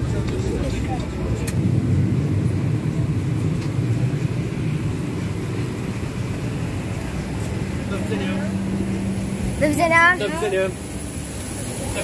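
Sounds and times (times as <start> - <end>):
airliner low hum and rumble: 0.0 - 12.0.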